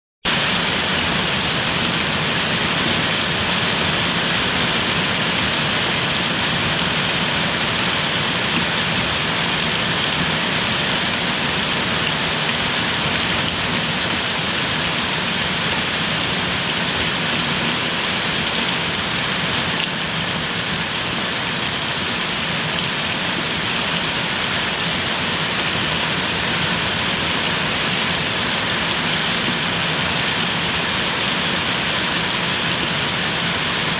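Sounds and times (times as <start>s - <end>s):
steady rain pattering: 0.3s - 33.9s.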